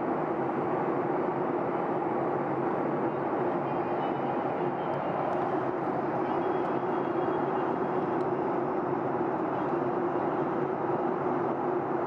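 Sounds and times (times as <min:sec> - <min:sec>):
airflow rushing in cabin: 0:00.0 - 0:12.0
jet engines humming: 0:00.0 - 0:12.0.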